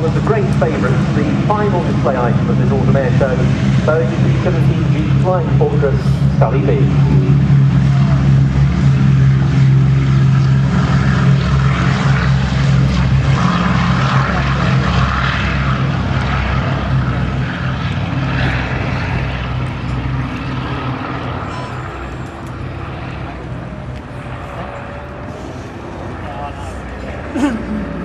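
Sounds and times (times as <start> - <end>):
propeller aircraft engines droning: 0.0 - 28.0.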